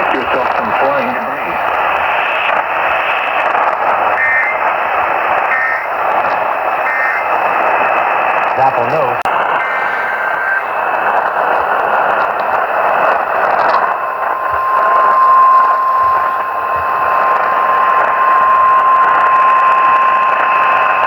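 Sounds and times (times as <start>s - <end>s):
radio static hiss: 0.0s - 21.0s
steady alarm tone: 0.0s - 21.0s.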